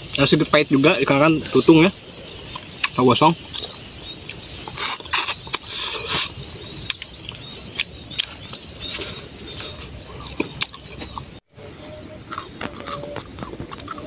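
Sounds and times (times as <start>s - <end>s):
man chewing food: 2.0s - 14.0s.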